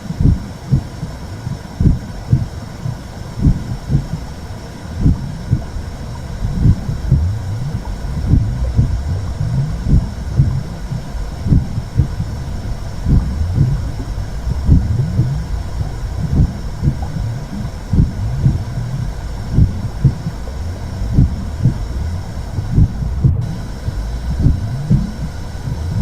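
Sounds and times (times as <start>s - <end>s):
faint hiss: 0.0s - 26.0s
heartbeat-like pulse: 0.0s - 26.0s
low whooshing rumble: 0.0s - 26.0s.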